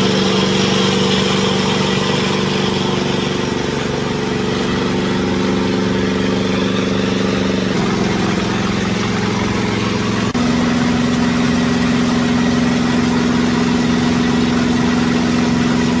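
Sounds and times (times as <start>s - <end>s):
generator running: 0.0s - 16.0s.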